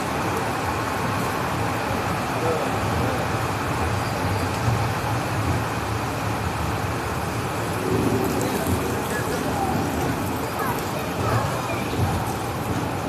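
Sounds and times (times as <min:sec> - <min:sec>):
vehicle rumbling: 0:00.0 - 0:13.0.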